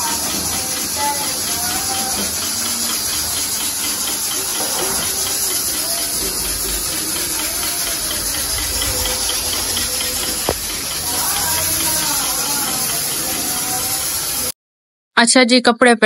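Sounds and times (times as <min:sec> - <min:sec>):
pressure cooker hissing steam: 0:00.0 - 0:14.6.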